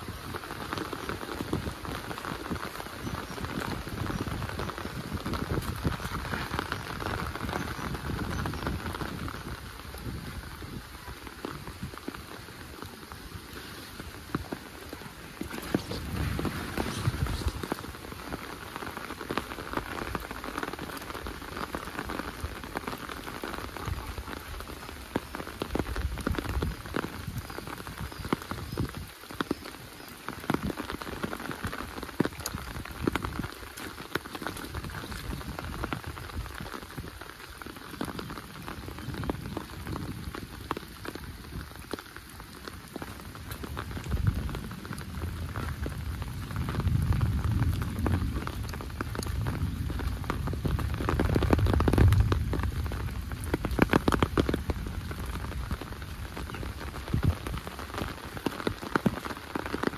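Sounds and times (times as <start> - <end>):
rain drop impacts: 0.0 - 59.9
steady rain falling: 0.0 - 59.9.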